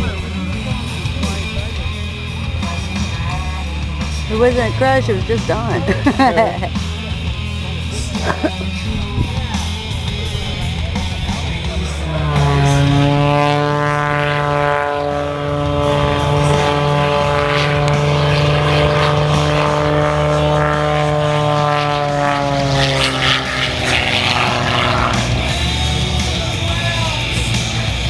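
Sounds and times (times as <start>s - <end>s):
propeller airplane engine passing: 0.0s - 28.0s.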